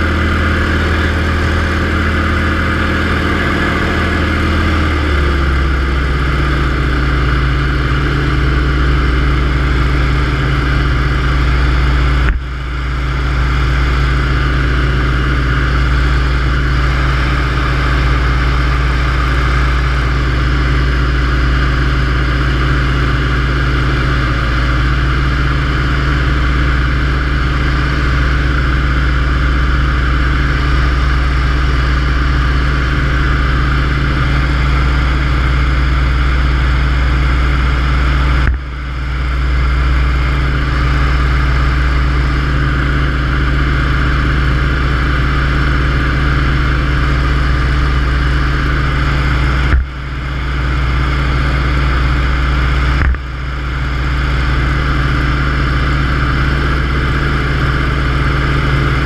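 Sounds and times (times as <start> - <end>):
radial engine and propeller drone: 0.0 - 59.0.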